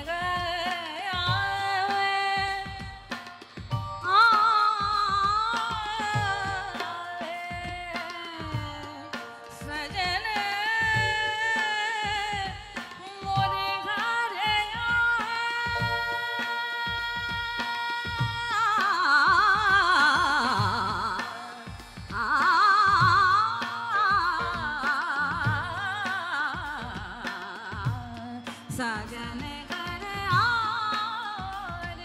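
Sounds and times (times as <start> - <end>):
tabla strokes: 0.0 - 32.0
woman singing: 0.0 - 32.0.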